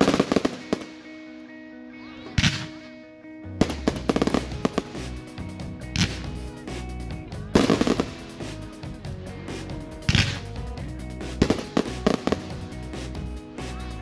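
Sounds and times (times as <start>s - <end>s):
fireworks bursting: 0.0s - 1.1s, 3.6s - 13.8s
crackling pops: 0.0s - 1.4s, 2.4s - 3.0s, 3.6s - 8.9s, 9.6s - 13.8s
music: 0.0s - 14.0s.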